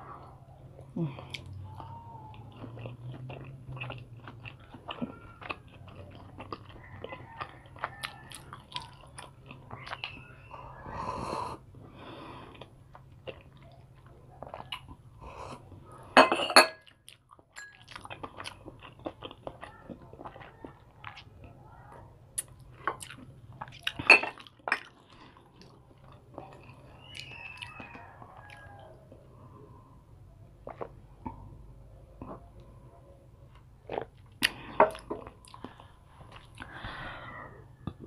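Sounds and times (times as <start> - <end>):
chewing and wet mouth noises: 0.0 - 16.2, 16.8 - 38.0.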